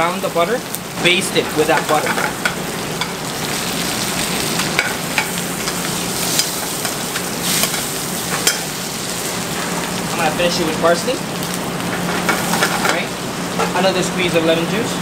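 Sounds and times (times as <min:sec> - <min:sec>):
butter sizzling in a pan: 0:00.0 - 0:13.9.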